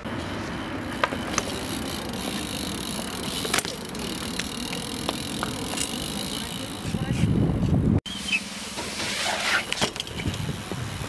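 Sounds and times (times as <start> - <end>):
bike clicks and knocks: 0.0 - 7.8, 8.8 - 10.8
bike tyres rolling on concrete: 0.0 - 8.0, 8.7 - 11.0.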